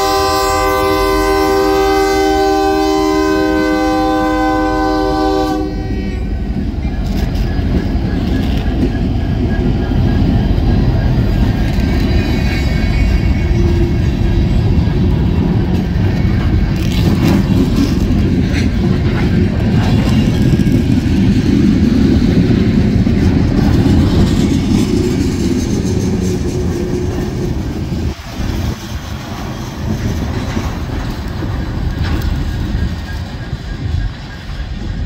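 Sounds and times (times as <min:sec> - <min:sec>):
freight train wheels rumbling: 0:00.0 - 0:35.0
rail clicks: 0:04.2 - 0:35.0.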